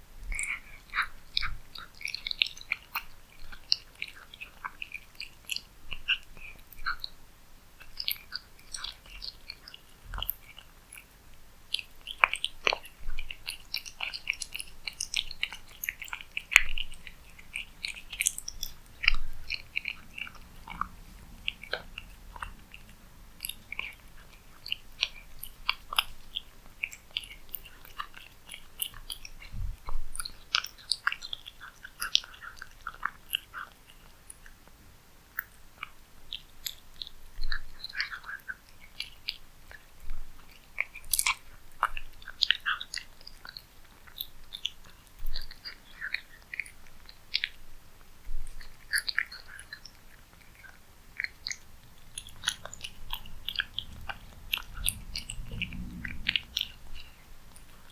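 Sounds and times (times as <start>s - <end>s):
cat chewing food: 0.2s - 57.9s.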